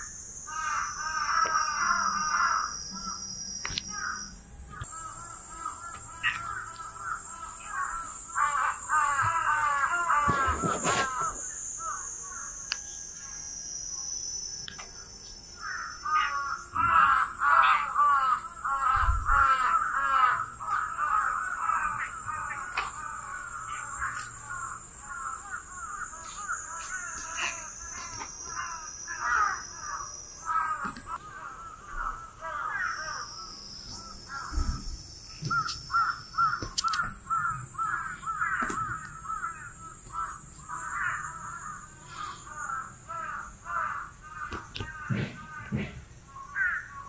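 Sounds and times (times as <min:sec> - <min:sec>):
birds cawing: 0:00.0 - 0:03.3, 0:03.9 - 0:12.6, 0:15.6 - 0:47.0.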